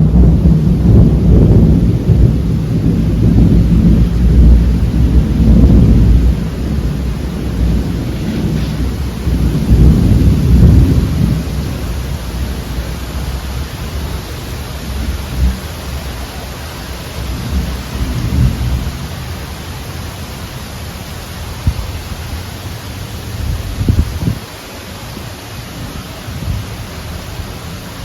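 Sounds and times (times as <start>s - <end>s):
rolling thunder rumbles: 0.0s - 28.0s
steady rain hissing: 0.0s - 28.0s.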